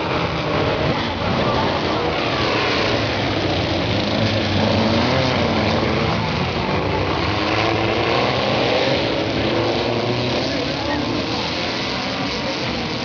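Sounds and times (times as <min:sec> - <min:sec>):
race car engines revving hard: 0:00.0 - 0:13.0.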